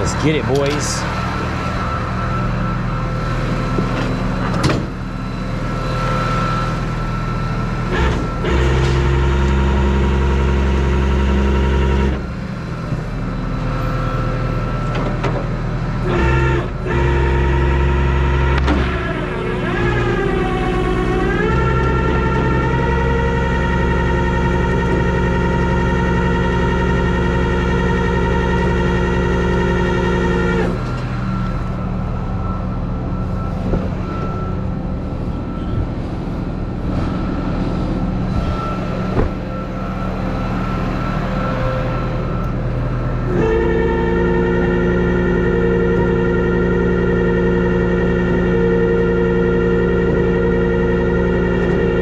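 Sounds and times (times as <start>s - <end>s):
truck engine shifting gears: 0.0s - 52.0s.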